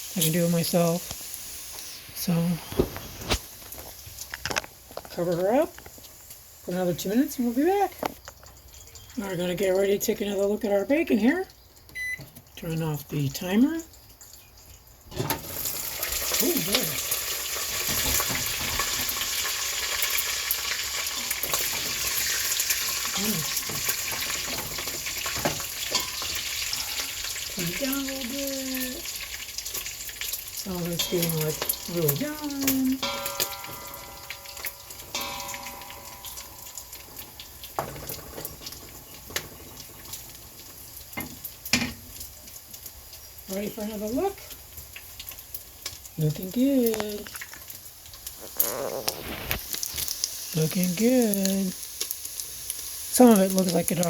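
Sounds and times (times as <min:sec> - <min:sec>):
sharp frying pops: 0:00.0 - 0:09.2, 0:13.9 - 0:54.0
bacon sizzling in a pan: 0:00.0 - 0:54.0.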